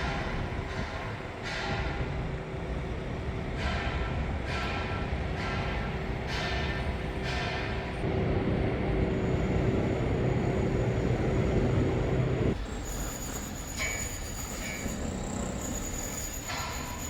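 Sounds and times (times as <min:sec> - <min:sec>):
passing train rumble: 0:00.0 - 0:16.5.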